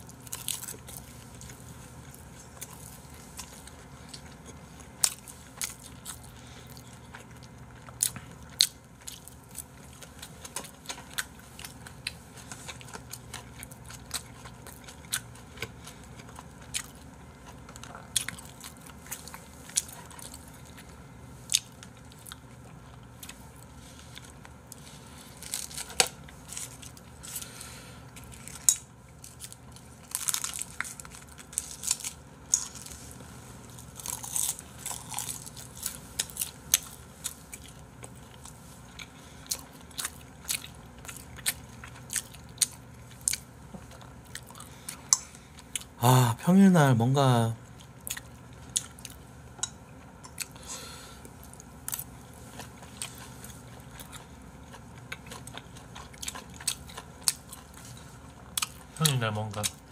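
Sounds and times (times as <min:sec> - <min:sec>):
people chewing: 0:00.0 - 0:46.0, 0:47.6 - 0:59.9.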